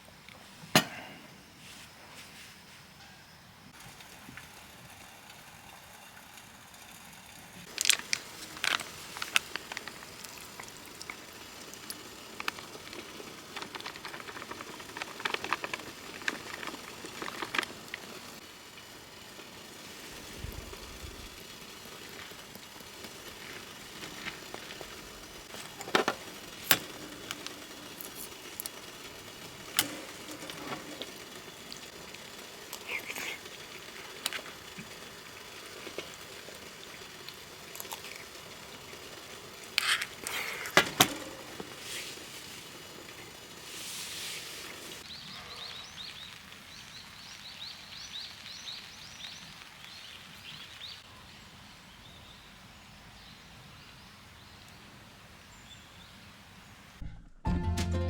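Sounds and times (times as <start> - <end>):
campfire crackling and popping: 3.7 - 51.1.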